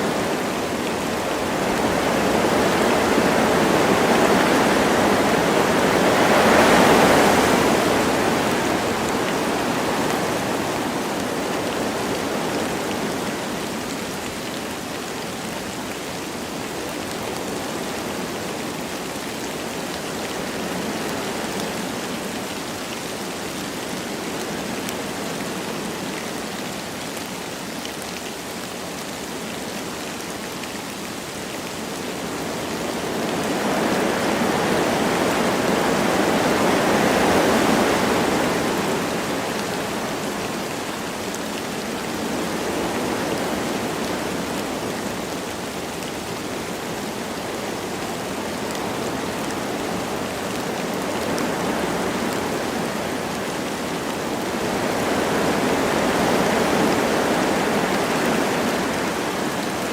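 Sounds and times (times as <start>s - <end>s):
light rain falling: 0.0s - 59.9s
wind through forest trees: 0.0s - 59.9s.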